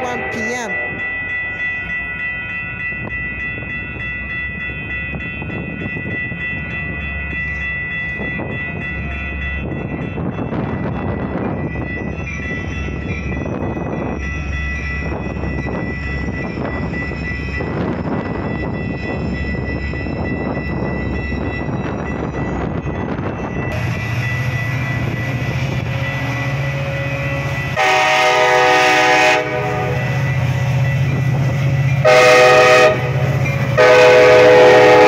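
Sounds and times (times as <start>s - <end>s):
crossing signal bells ringing: 0.0s - 35.0s
train wheels rumbling on rails: 0.0s - 35.0s.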